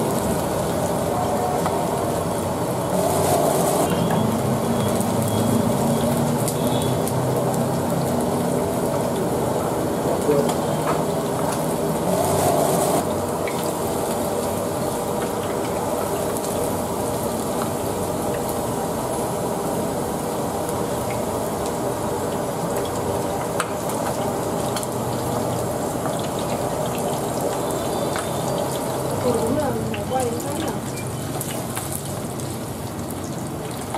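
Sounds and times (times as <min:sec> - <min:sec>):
deep-frying sizzle in oil: 0:00.0 - 0:33.9.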